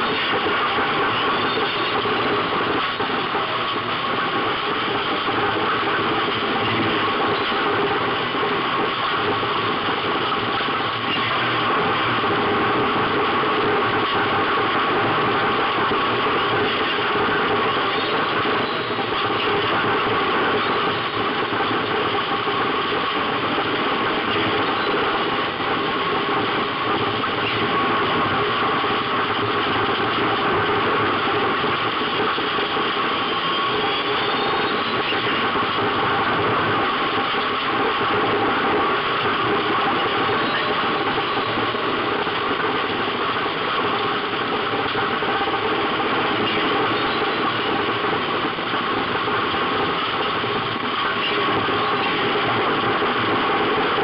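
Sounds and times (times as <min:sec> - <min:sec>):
race car engine running: 0:00.0 - 0:54.0
road noise on dirt track: 0:00.0 - 0:54.0.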